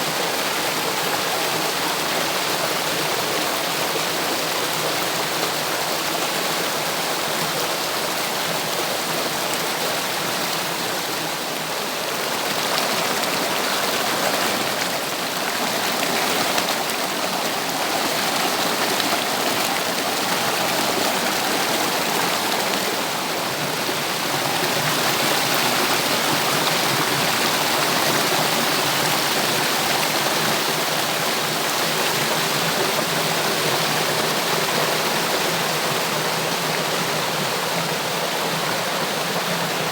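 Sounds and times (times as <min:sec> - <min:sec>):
water rushing down a cascade: 0:00.0 - 0:39.9.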